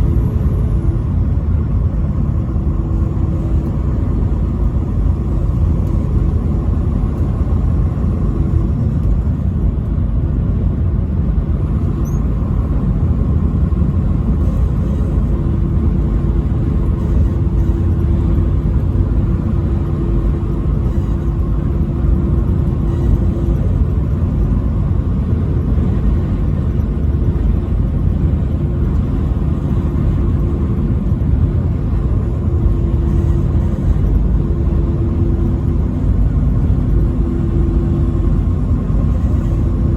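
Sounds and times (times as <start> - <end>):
truck driving on highway: 0.0 - 39.9.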